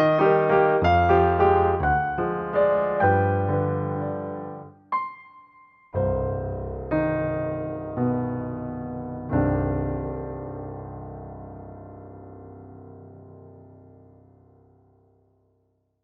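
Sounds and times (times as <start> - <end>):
slow piano chords: 0.0 - 15.2.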